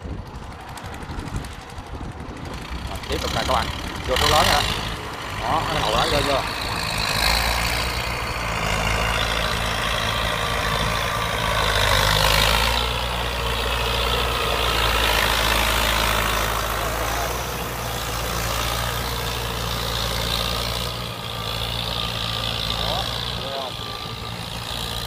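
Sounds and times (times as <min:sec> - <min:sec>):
tractor diesel engine under load: 0:00.0 - 0:25.0
tiller churning mud: 0:00.2 - 0:25.0.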